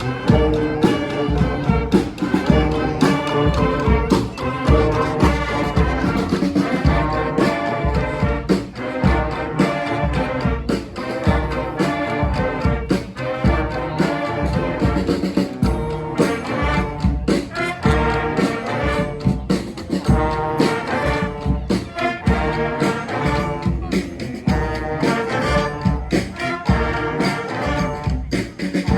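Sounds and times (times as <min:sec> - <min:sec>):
brass horns playing a tune: 0:00.0 - 0:28.9
steady drumbeat: 0:00.0 - 0:28.9.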